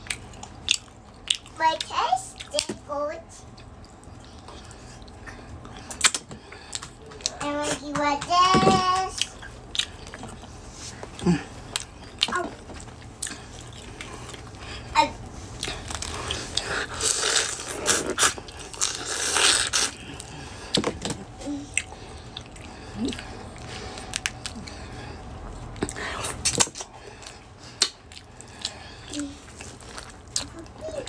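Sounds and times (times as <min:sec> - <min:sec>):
chewing and biting: 0:00.0 - 0:02.7, 0:03.4 - 0:07.4, 0:09.2 - 0:31.0.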